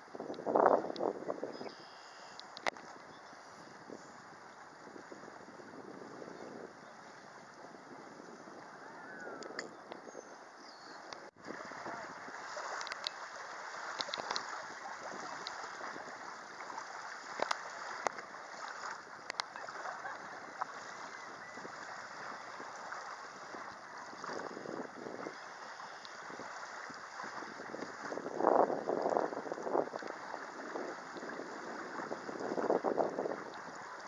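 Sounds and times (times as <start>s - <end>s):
lake water lapping at shore: 0.0s - 34.0s
wind: 0.0s - 34.0s.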